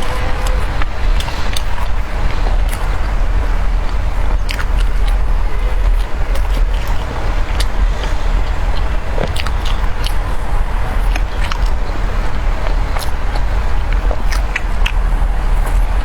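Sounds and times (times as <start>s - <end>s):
close chewing: 0.0s - 16.0s
low rumble: 0.0s - 16.0s
mouth clicks and smacks: 0.0s - 16.0s.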